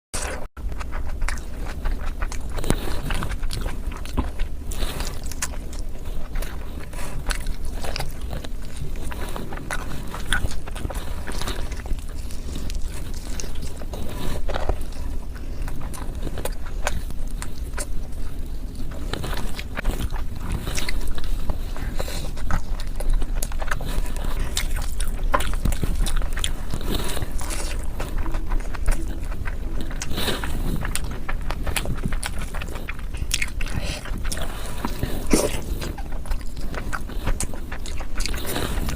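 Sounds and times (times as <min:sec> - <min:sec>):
biting and chewing: 0:00.2 - 0:38.9.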